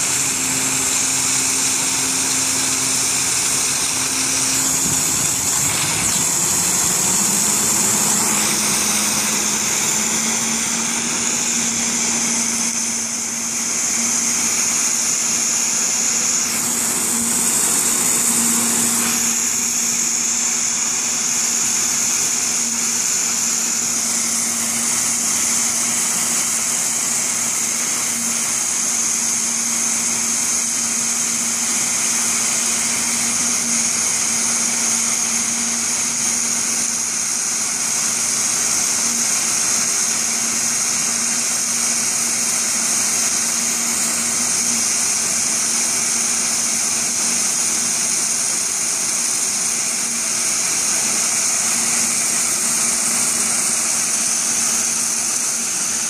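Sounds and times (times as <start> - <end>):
engine and pump humming: 0.0 - 56.0
high-pressure water spray hissing: 0.0 - 56.0.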